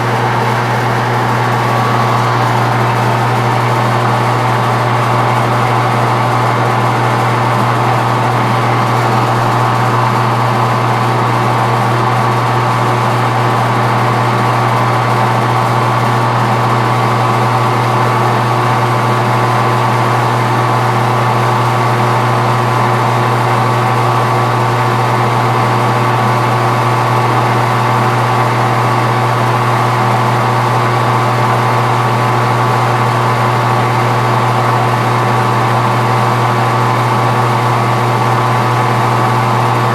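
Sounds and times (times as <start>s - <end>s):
metal lathe running: 0.0s - 39.9s.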